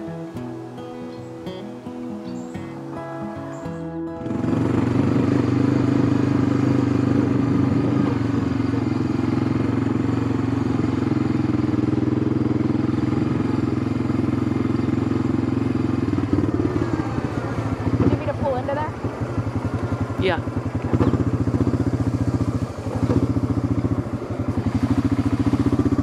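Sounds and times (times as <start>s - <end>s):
atv engine droning: 0.0s - 26.0s.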